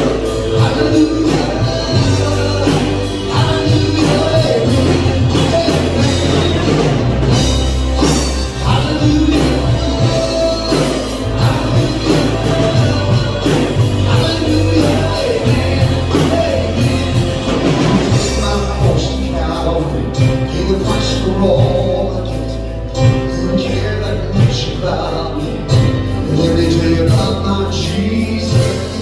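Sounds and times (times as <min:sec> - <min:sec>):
live band playing worship song: 0:00.0 - 0:29.0.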